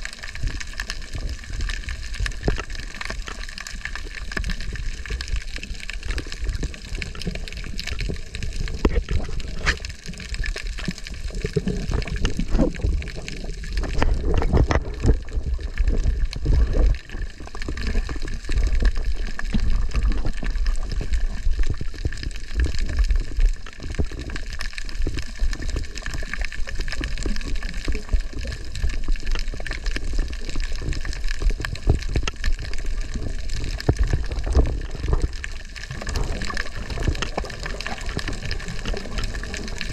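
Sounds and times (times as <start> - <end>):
muffled underwater water rush: 0.0 - 39.9
small clicks and crackles: 0.0 - 39.9.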